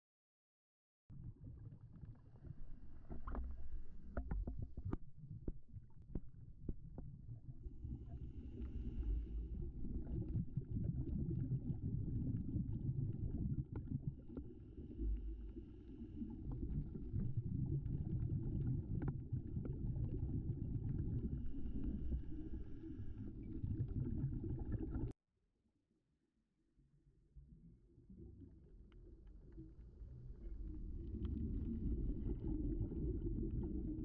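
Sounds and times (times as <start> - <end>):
underwater rumble of water: 1.1 - 25.2, 27.2 - 34.0.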